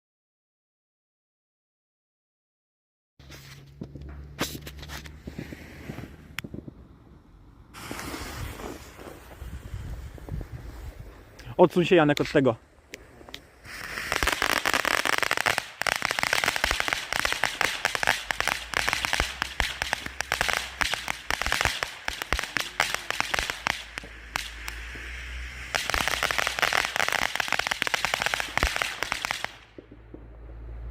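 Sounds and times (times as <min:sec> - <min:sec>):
firework fountain hissing and crackling: 0:03.3 - 0:30.4.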